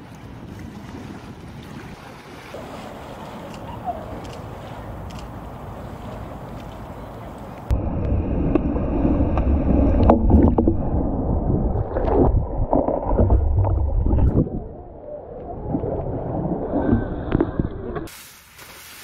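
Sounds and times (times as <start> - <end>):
water sloshing and splashing: 0.0 - 7.7, 9.2 - 19.0
water gurgling: 1.7 - 18.1.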